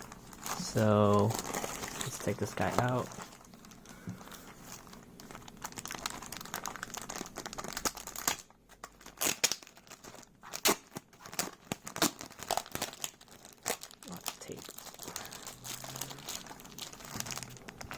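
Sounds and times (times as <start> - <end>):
plastic packaging crinkling and tearing: 0.0 - 17.9.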